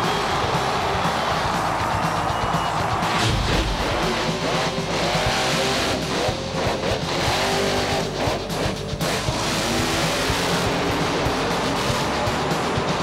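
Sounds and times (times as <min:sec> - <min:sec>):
rock music with electric guitar: 0:00.0 - 0:13.0
truck engine revving: 0:00.0 - 0:13.0.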